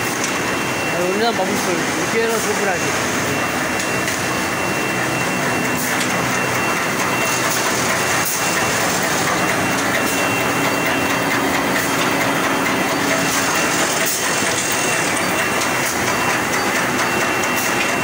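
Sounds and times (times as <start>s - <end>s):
machine rollers clattering: 0.0s - 18.0s.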